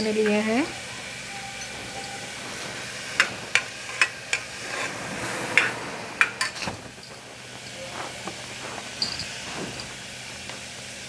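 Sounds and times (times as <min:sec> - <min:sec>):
spoon clinking against pot: 0:00.0 - 0:04.9, 0:05.5 - 0:10.0
food sizzling: 0:00.0 - 0:11.0.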